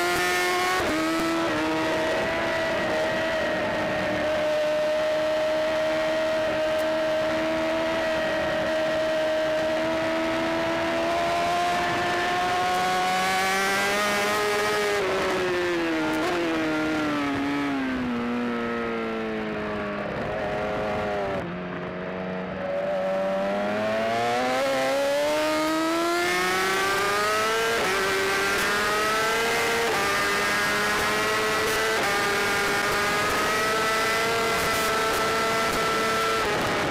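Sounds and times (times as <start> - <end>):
motorcycle engine at high revs: 0.0 - 36.9.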